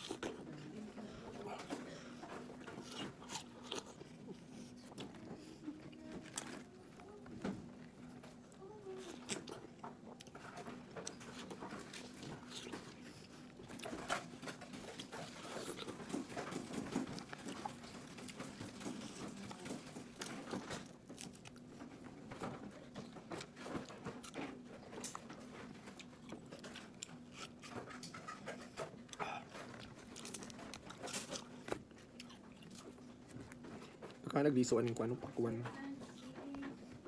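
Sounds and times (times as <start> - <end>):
wet chewing and biting: 0.0 - 21.8, 22.6 - 34.2.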